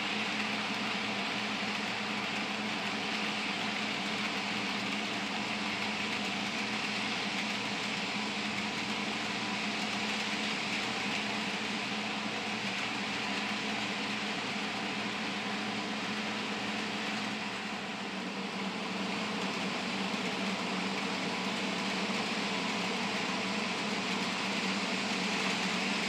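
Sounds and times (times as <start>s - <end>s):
model train motor whirring: 0.0s - 26.0s.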